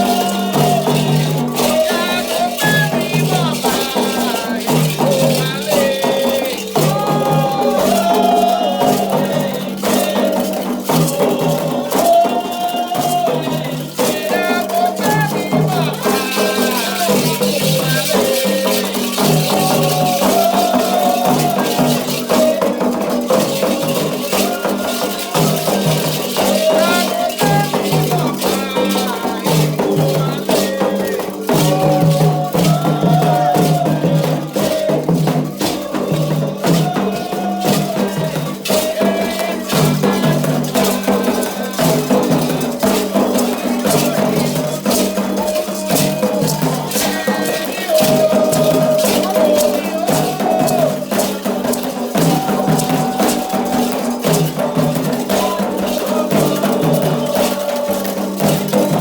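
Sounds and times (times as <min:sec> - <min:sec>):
chanting voices: 0:00.0 - 0:59.0
drum and percussion strikes: 0:00.0 - 0:59.0
rattle shaken: 0:00.0 - 0:59.0.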